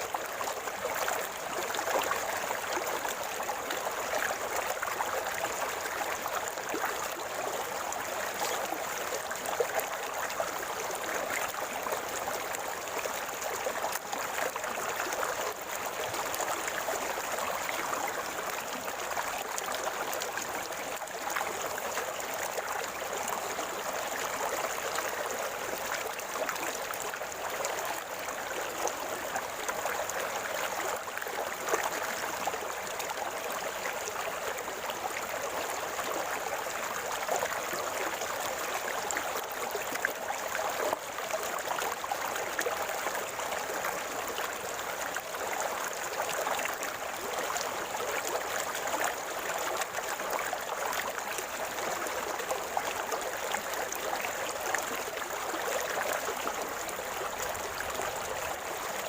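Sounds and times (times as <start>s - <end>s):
river water gurgling over stones: 0.0s - 59.0s.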